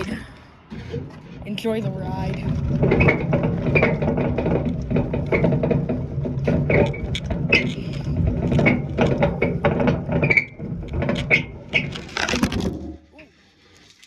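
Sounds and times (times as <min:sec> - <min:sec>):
lawn mower rattling and clattering: 0:00.0 - 0:13.0.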